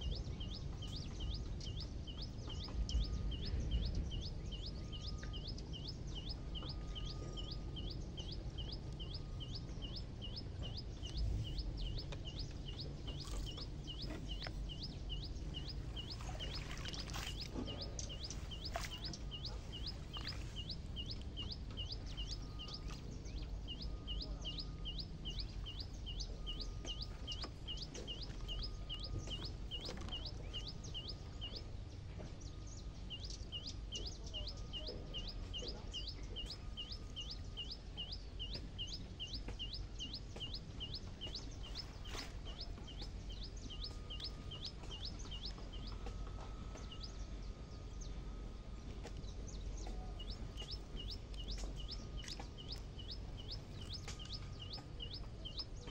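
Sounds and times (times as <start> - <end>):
low outdoor rumble: 0.0 - 55.9.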